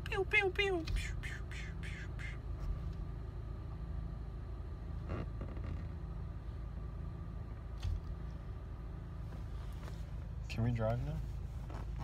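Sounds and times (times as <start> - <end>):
car cabin engine rumble: 0.0 - 12.0.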